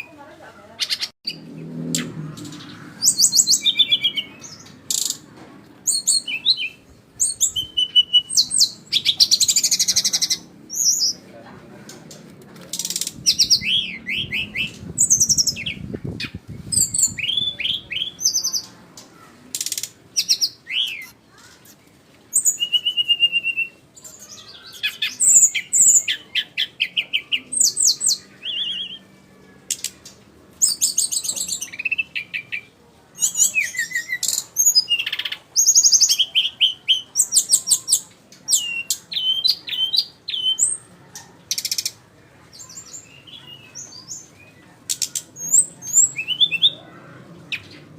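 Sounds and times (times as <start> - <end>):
bird singing high chirps: 0.8 - 5.2, 5.9 - 11.2, 12.7 - 18.7, 19.6 - 21.2, 22.3 - 29.9, 30.6 - 40.9, 42.6 - 46.9.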